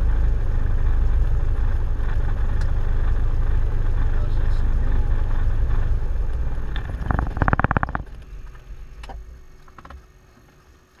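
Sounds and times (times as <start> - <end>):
small plane engine shutting down: 0.0 - 9.8.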